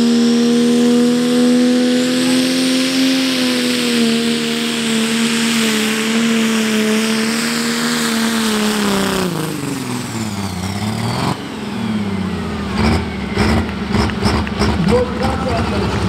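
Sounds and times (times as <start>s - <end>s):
diesel engine at high revs: 0.0s - 16.0s.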